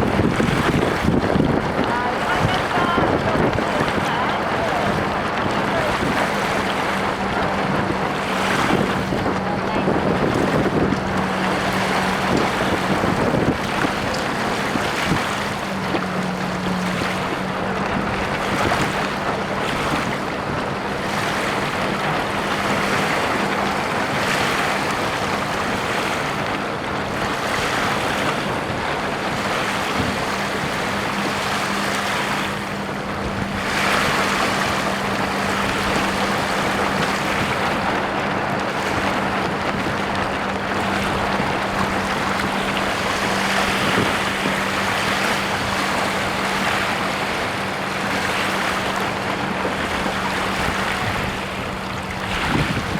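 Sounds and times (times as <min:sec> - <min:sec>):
water rushing along hull: 0:00.0 - 0:52.9
wind buffeting microphone: 0:00.0 - 0:52.9.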